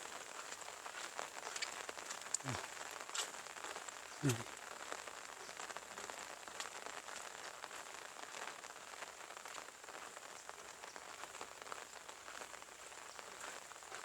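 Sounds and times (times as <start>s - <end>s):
steady rain hiss: 0.0s - 14.0s
raindrop ticks: 0.1s - 14.0s.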